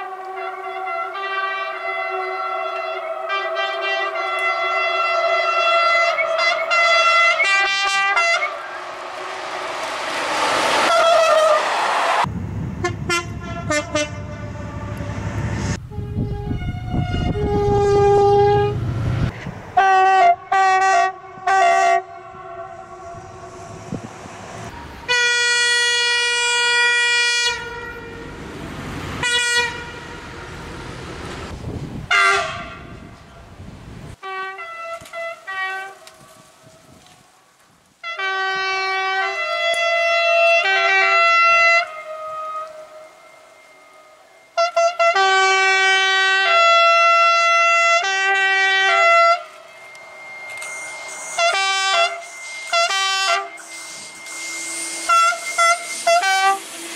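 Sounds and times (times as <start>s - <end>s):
locomotive horn toots: 0.0s - 12.2s, 12.8s - 33.3s, 34.2s - 37.2s, 38.0s - 56.9s
passing train rumble: 0.0s - 34.2s, 38.3s - 56.9s.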